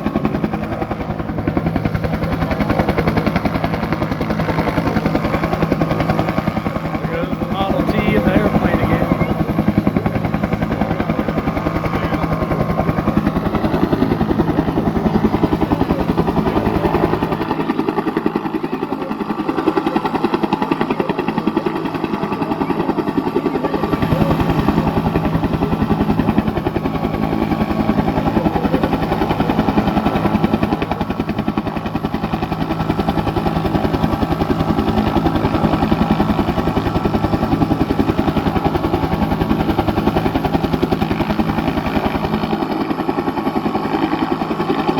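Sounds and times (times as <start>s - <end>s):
helicopter engine drone: 0.0s - 44.9s
helicopter rotor beat: 0.0s - 44.9s.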